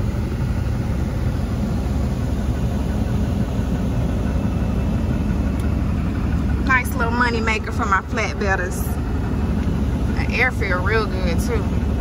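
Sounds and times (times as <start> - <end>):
air conditioning blowing: 0.0 - 12.0
truck engine idling: 0.0 - 12.0.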